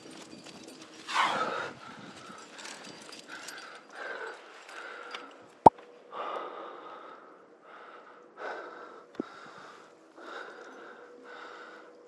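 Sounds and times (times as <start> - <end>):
person breathing steadily: 1.3 - 12.0.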